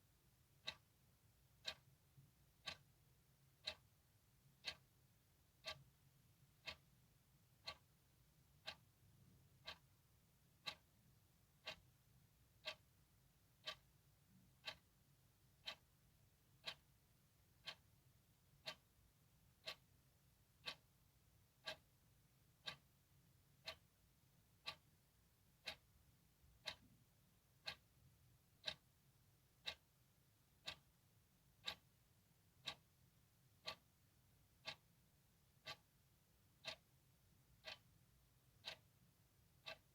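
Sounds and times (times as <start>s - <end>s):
clock ticking: 0.5s - 39.9s.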